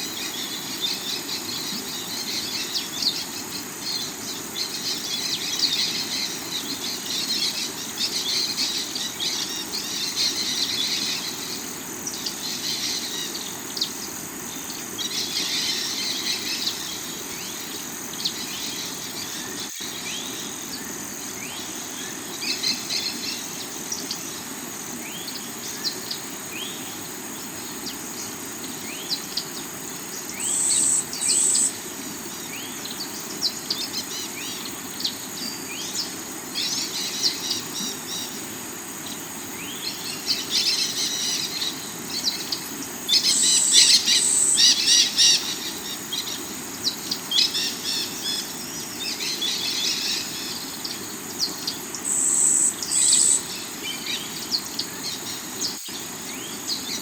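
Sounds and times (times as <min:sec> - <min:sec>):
insects: 0:00.0 - 0:57.0.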